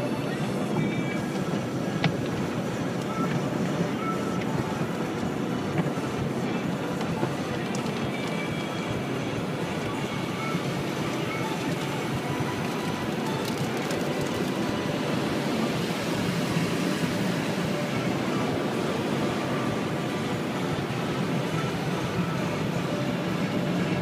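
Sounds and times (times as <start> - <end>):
car wash equipment working: 0.0 - 24.0.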